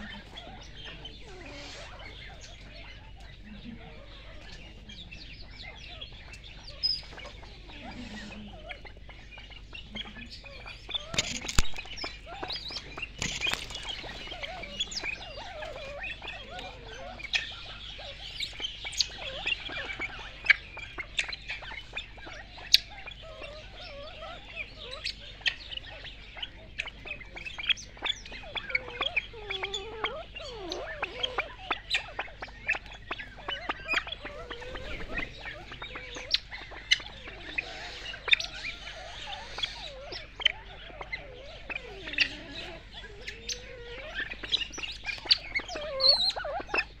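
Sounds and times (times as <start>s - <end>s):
birds chirping: 0.0s - 47.0s
pheasants pecking taps: 0.0s - 47.0s.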